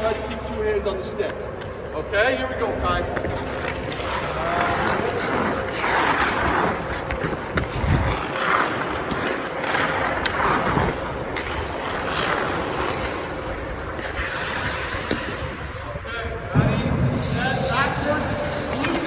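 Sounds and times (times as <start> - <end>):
skate blades scraping on ice: 0.0 - 16.0, 16.7 - 19.0.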